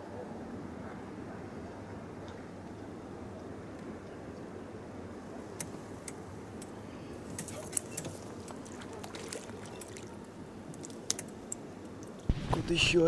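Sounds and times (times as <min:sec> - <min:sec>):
low outdoor background: 0:00.0 - 0:13.0.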